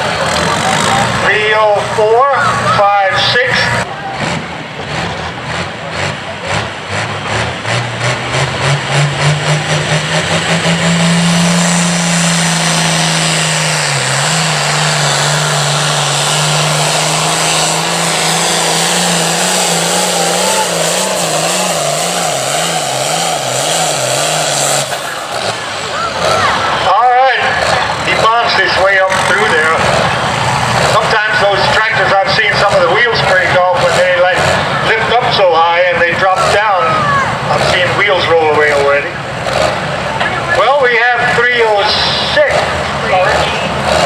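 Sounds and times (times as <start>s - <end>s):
tractor diesel engine at full throttle: 0.0s - 44.0s.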